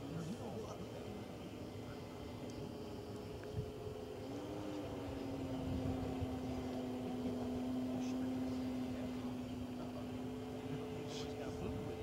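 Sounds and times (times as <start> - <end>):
model airplane motor droning: 0.0 - 12.0.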